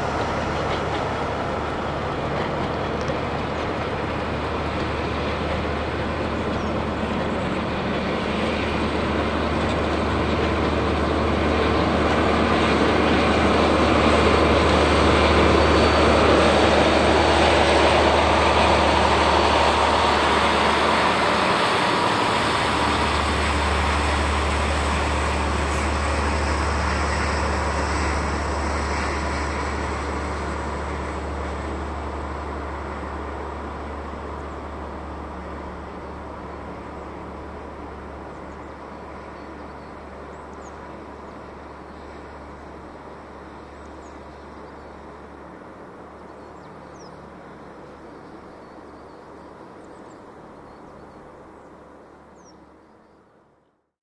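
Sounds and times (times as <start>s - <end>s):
diesel train passing: 0.0s - 53.6s.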